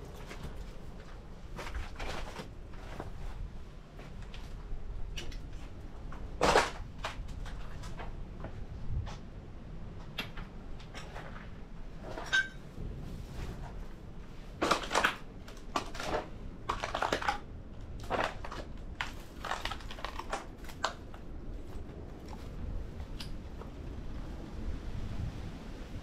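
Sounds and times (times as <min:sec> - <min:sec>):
crunching and scraping over debris: 0:00.0 - 0:09.3, 0:10.8 - 0:24.4.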